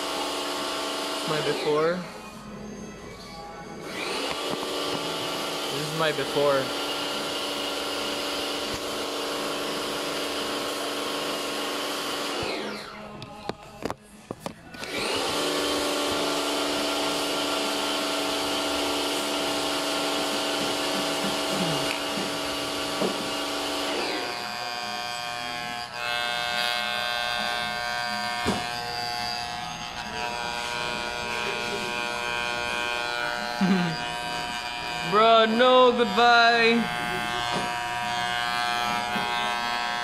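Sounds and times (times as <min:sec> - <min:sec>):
electric hair clippers buzzing: 0:00.0 - 0:02.1, 0:03.8 - 0:13.1, 0:14.7 - 0:40.0.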